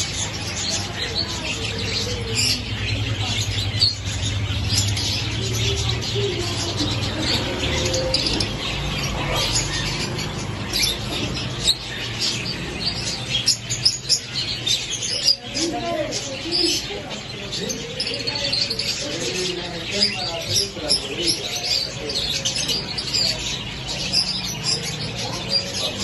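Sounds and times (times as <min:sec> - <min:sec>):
parrots chirping and squawking: 0:00.0 - 0:26.0.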